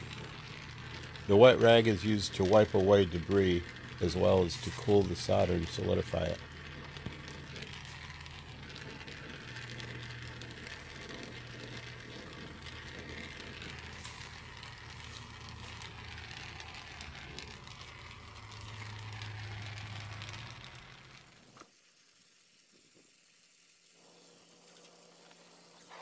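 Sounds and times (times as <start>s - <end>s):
gas torch hissing: 0.0s - 26.0s.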